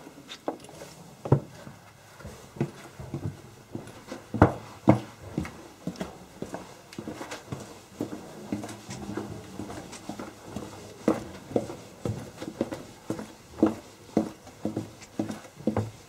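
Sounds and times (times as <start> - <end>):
footsteps on hard floor: 0.4 - 16.0.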